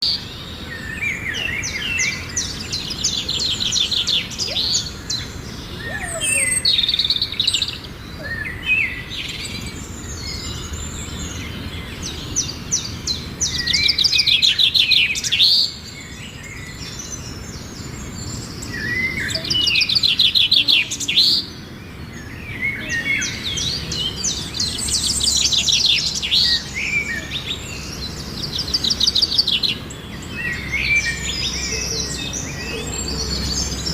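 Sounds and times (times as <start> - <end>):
bird chirps: 0.0 - 33.9
songbird trilling: 0.1 - 33.9.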